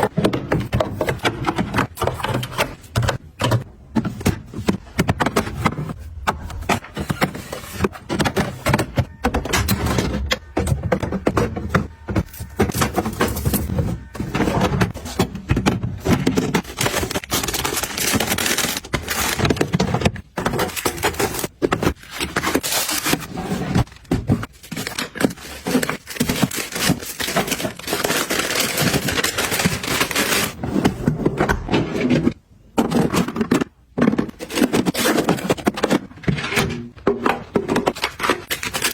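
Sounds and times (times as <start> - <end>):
containers and packaging handled: 0.0 - 38.9.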